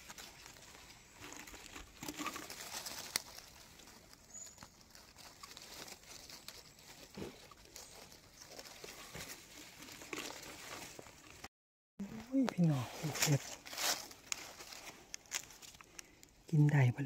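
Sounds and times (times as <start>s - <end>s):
twig and leaf clicks: 0.0s - 10.4s, 12.3s - 16.9s
dry leaves rustling: 0.0s - 17.0s.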